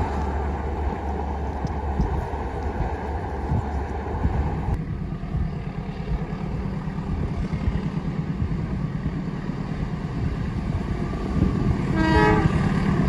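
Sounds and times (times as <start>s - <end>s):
train passing rumble: 0.0s - 13.0s.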